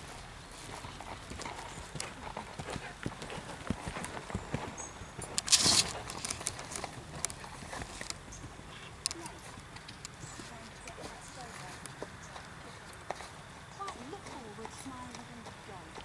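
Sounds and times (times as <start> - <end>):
hoofbeats on sand: 0.0 - 16.0.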